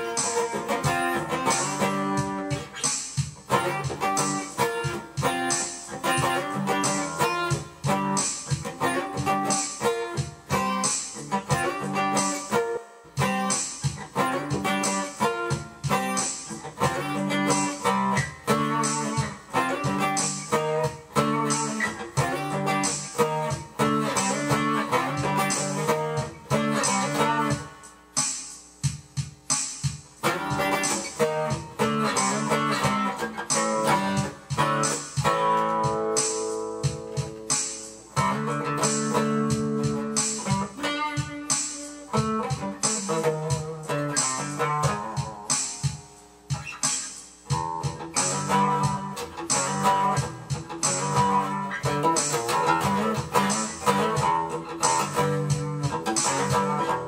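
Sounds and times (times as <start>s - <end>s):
guitar strummed and picked: 0.0s - 57.0s.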